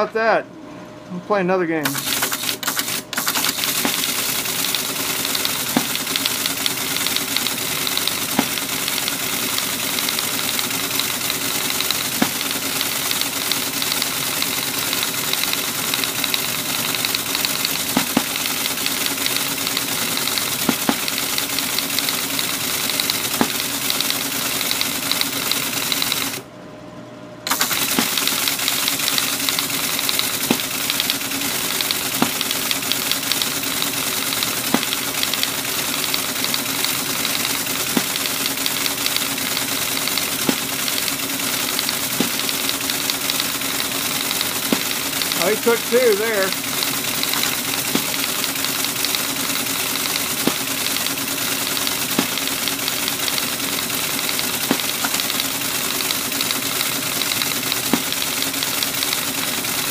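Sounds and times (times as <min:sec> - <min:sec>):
motor hum: 0:00.6 - 0:59.9
teletype mechanism knock: 0:01.8 - 0:26.4, 0:27.5 - 0:59.9
teletype printer clattering: 0:01.8 - 0:26.4, 0:27.5 - 0:59.9.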